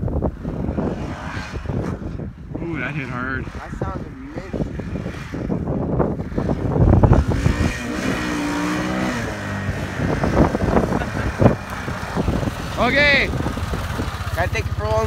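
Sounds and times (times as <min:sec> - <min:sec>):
atv engine revving: 0:00.0 - 0:15.0
wind buffeting microphone: 0:00.0 - 0:15.0.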